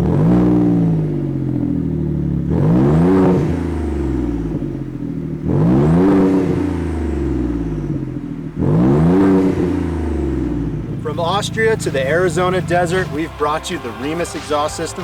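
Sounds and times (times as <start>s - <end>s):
truck exhaust accelerating: 0.0s - 15.0s.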